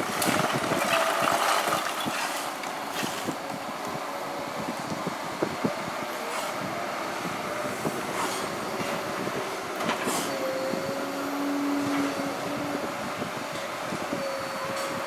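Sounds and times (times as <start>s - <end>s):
excavator engine drone: 0.0s - 15.0s.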